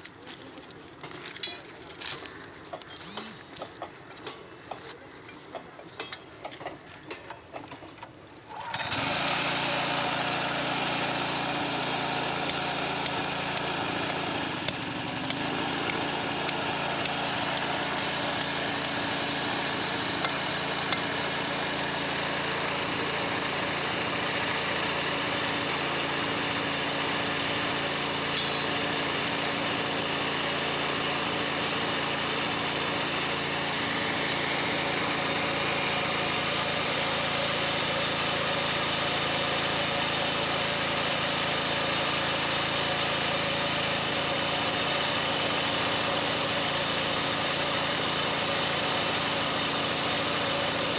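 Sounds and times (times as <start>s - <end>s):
small petrol engine running: 2.0s - 4.4s, 8.5s - 50.9s.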